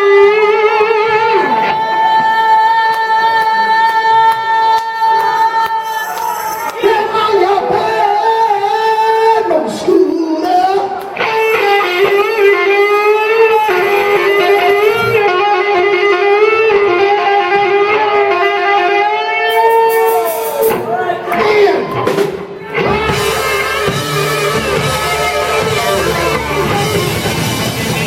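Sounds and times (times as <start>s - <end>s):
electric guitar bending notes: 0.0s - 5.4s, 7.0s - 28.0s
live rock band: 0.0s - 28.0s.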